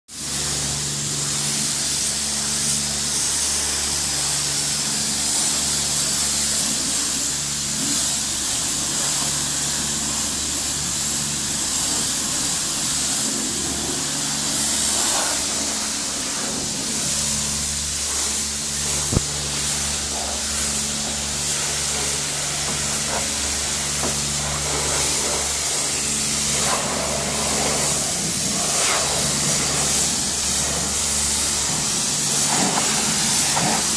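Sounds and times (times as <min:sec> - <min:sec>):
pressure washer spraying water: 0:00.1 - 0:33.9.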